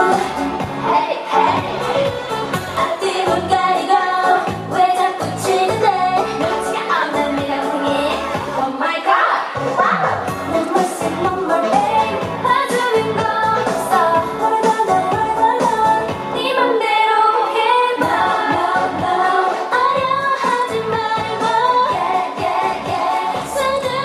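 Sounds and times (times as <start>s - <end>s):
dance-pop song with female vocals: 0.0s - 24.0s.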